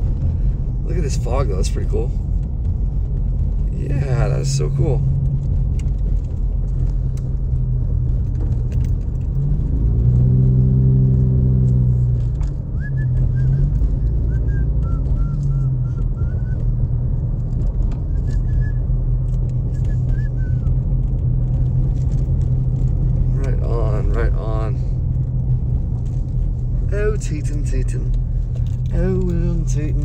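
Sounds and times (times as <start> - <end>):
car engine: 0.0 - 30.0
road rumble: 0.0 - 30.0.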